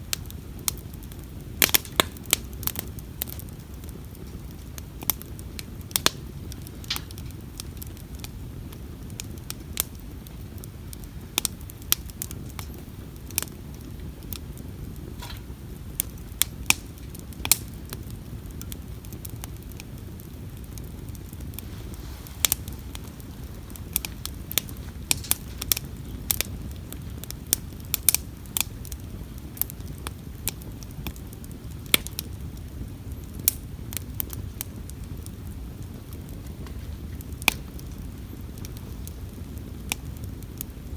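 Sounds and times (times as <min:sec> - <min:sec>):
campfire crackling and popping: 0:00.0 - 0:40.9
low rumble of burning: 0:00.0 - 0:40.9.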